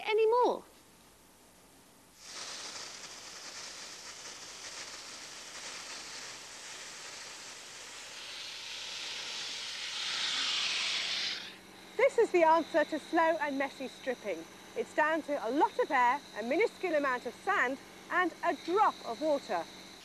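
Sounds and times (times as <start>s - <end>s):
blasting jet hissing: 2.2s - 20.0s.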